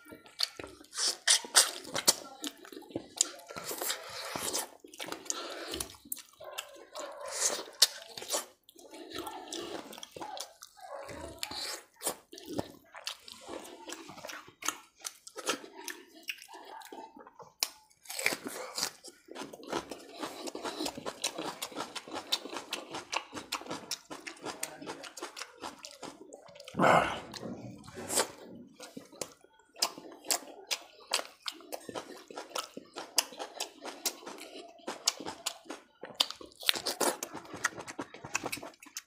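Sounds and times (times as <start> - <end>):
close chewing and biting: 0.0 - 39.0.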